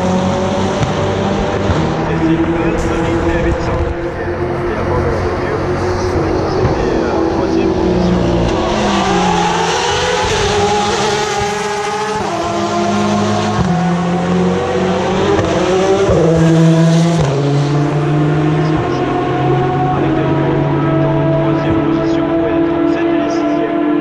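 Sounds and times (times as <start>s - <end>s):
race car engines shifting gears: 0.0s - 24.0s.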